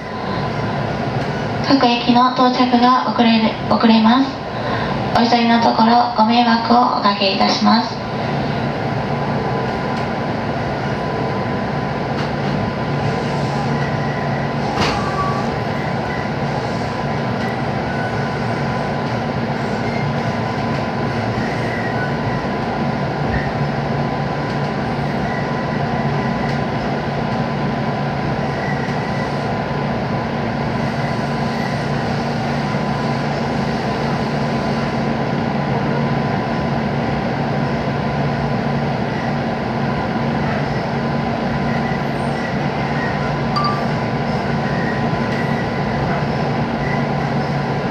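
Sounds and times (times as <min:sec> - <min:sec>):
electric train rumble and hum: 0:00.0 - 0:47.9.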